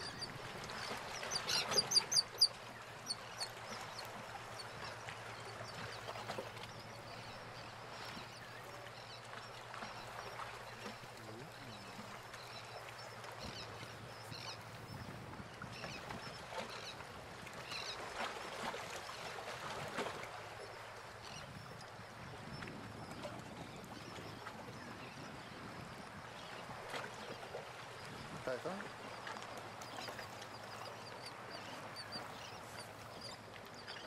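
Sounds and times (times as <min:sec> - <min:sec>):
distant bird calls: 0:00.0 - 0:17.0, 0:23.7 - 0:34.0.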